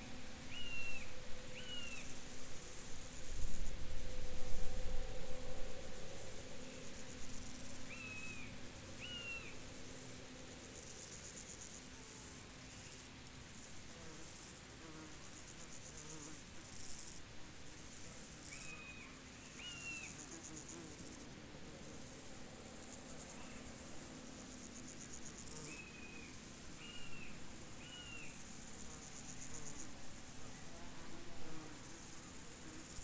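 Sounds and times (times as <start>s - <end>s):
crickets chirping in trills: 0.0s - 33.0s.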